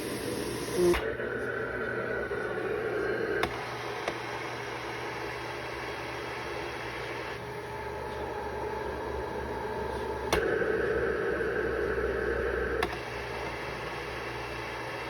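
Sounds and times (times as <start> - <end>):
blower humming: 0.0 - 15.0.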